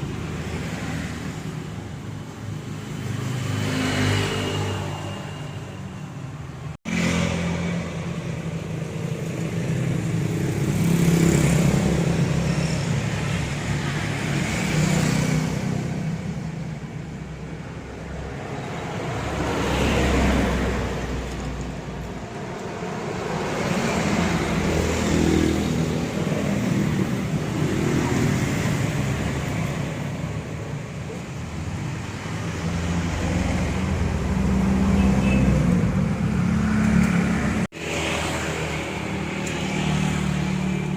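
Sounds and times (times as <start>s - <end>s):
vehicles passing: 0.0s - 40.9s.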